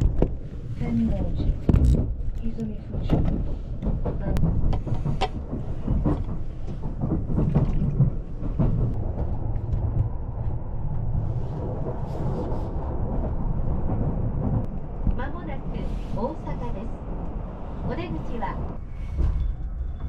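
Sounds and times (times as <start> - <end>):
train clatter: 0.0 - 20.0
train rumbling: 0.0 - 20.0.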